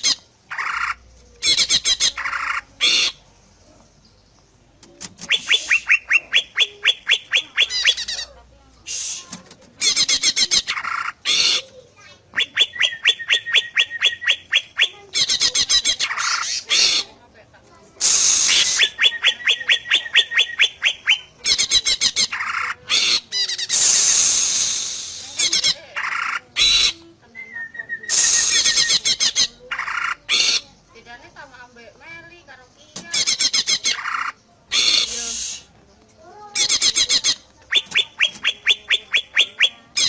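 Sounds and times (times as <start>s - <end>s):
bird singing varied song: 0.0s - 8.4s, 9.4s - 17.2s, 18.0s - 40.0s.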